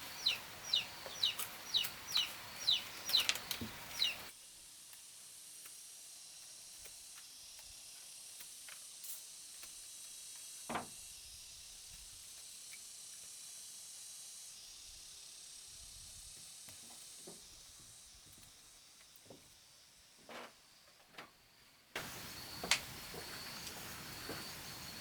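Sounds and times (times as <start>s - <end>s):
insects hissing: 0.0s - 25.0s.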